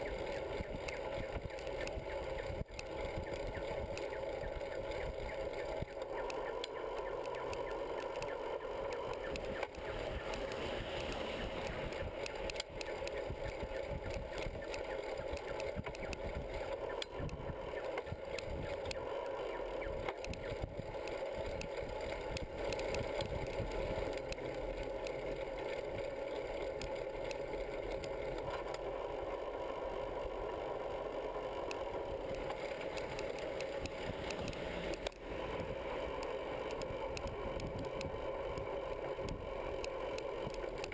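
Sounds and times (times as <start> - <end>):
bicycle rolling on paved road: 0.0 - 40.9.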